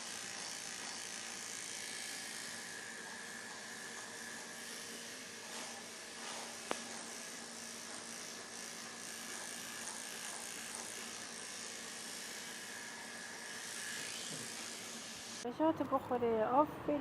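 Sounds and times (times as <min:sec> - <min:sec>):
electric hair clippers humming: 0:00.0 - 0:15.4.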